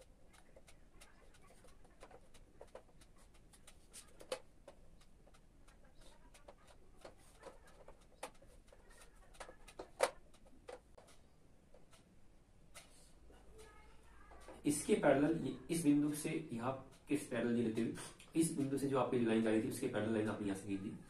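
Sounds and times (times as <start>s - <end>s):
marker drawing on whiteboard: 0.0s - 18.9s.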